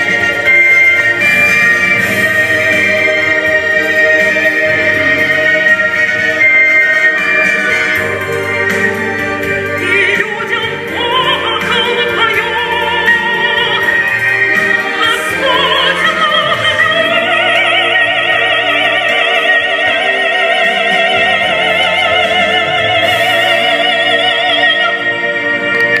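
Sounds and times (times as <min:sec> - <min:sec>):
instrumental accompaniment: 0:00.0 - 0:26.0
woman singing operatically: 0:00.0 - 0:26.0.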